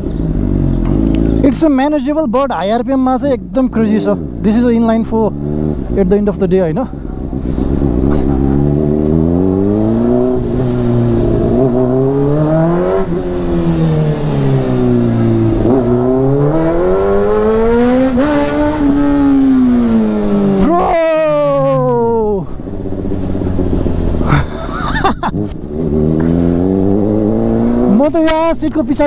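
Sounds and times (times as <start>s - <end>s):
motorcycle engine accelerating: 0.0s - 1.9s, 2.8s - 29.0s.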